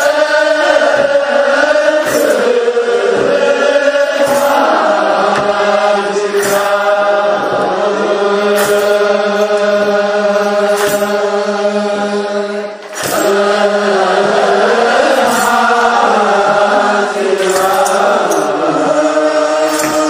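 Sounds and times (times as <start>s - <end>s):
men chanting a hymn in unison: 0.0s - 20.0s.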